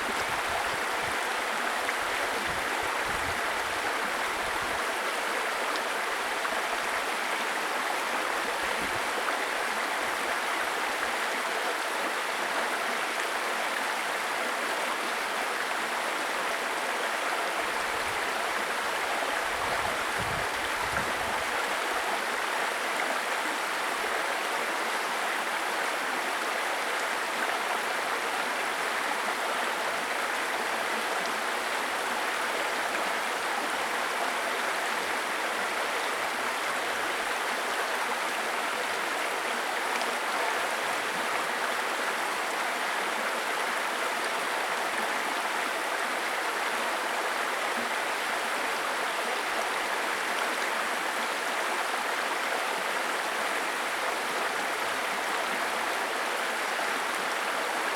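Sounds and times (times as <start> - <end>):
stream babbling over stones: 0.0 - 57.9.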